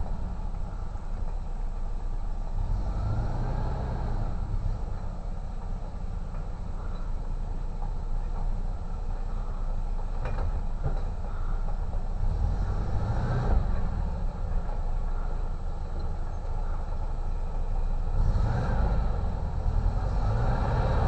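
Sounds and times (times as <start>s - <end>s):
van engine revving: 0.0s - 21.0s.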